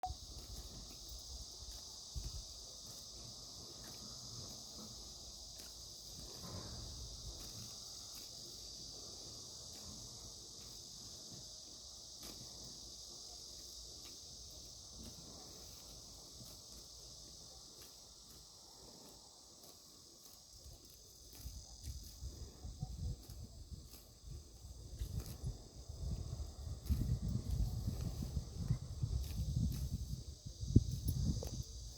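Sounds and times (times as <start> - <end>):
crickets chirring: 0.0 - 31.9.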